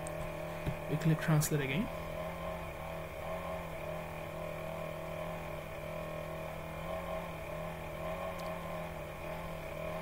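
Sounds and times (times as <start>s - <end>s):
steady hum with held tones: 0.0s - 10.0s.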